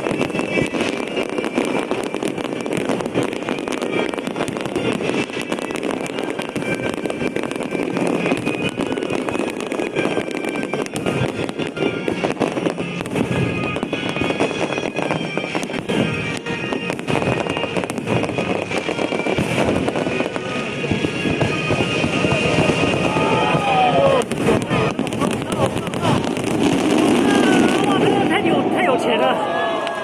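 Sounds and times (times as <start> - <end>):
fireworks crackling and popping: 0.0 - 30.0
music playing: 0.0 - 30.0.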